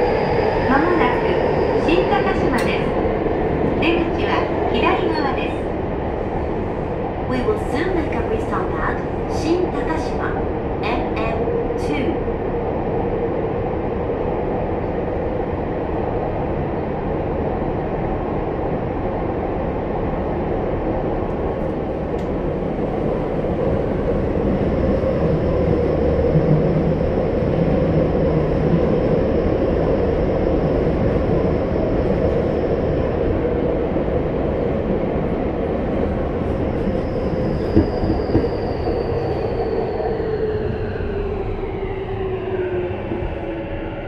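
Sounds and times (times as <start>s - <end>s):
train wheels rumbling on rail: 0.0s - 13.2s, 19.6s - 44.0s.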